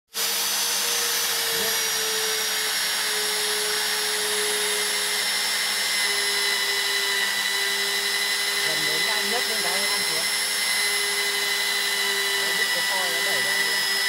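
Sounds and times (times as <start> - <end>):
machine tool motor whining: 0.2 - 14.0.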